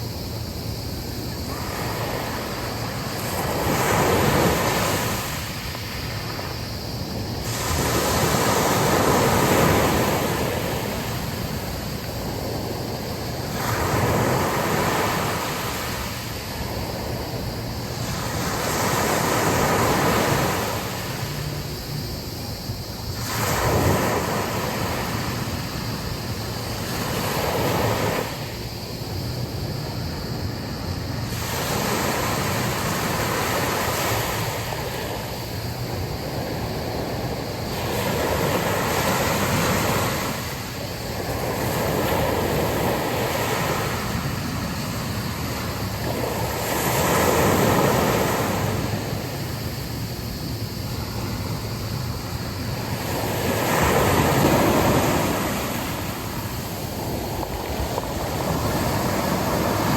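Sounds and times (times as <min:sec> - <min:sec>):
sea waves washing onto beach: 0:00.0 - 0:59.9
wind blowing: 0:00.0 - 0:59.9.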